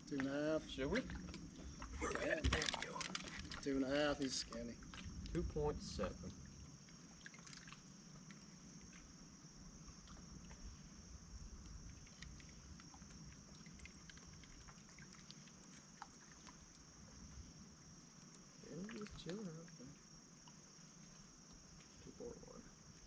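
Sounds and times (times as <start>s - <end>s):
insect chorus trilling: 0.0s - 23.0s.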